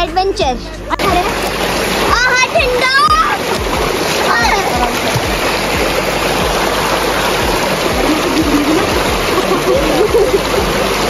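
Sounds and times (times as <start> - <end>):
faint voices: 0.6 - 11.0
stream rushing over stones: 1.0 - 11.0.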